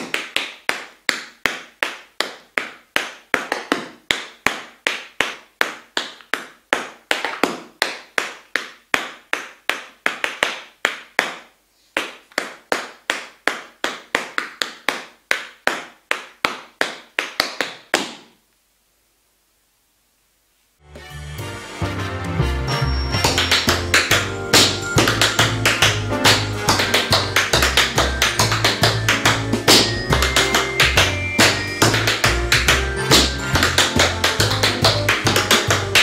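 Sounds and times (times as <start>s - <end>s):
tap shoes on wooden floor: 0.0s - 18.4s, 23.2s - 36.0s.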